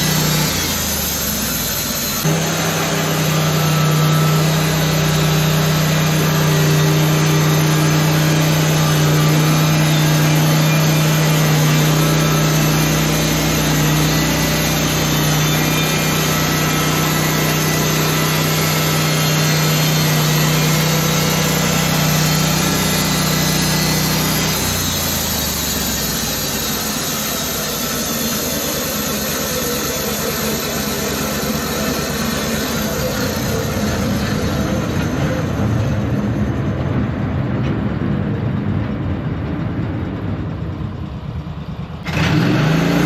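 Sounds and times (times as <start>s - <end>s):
sawmill engine running: 0.0s - 43.0s.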